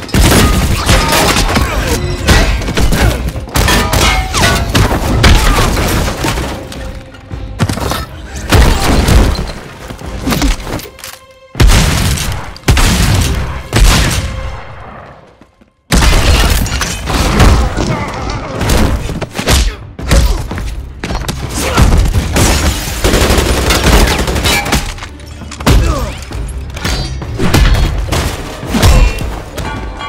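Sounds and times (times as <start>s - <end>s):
dramatic music: 0.0s - 30.0s.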